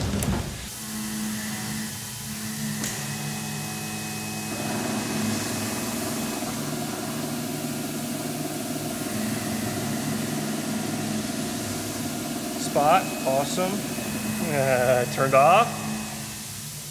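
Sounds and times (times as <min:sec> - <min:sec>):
lathe machine hum: 0:00.7 - 0:16.9
coolant hiss: 0:01.7 - 0:16.9.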